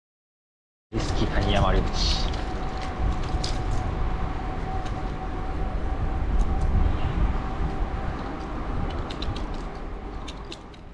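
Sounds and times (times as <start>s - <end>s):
bike tyres rumbling on pavement: 1.0s - 10.9s
wind buffeting microphone: 1.0s - 10.9s.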